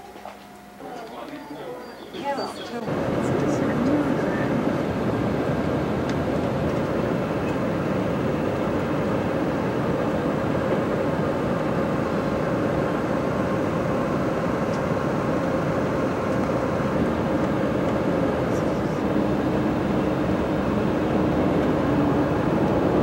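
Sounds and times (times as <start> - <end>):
vehicle engine and road noise: 2.8 - 23.0.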